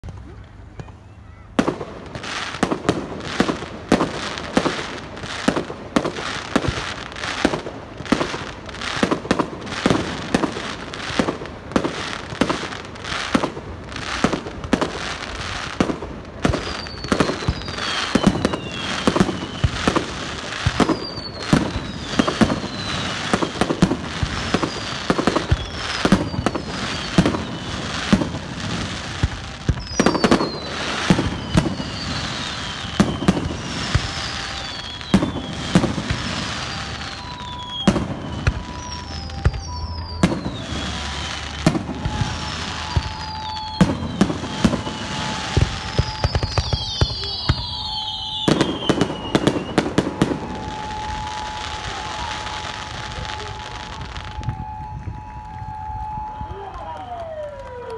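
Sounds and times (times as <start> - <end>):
fireworks bursting: 0.0 - 57.9
fireworks whistles falling in pitch: 0.4 - 57.9.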